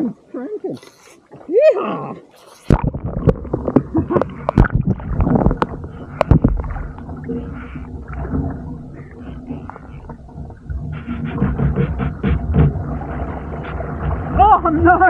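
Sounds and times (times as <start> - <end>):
water sloshing against camera: 0.0 - 15.0.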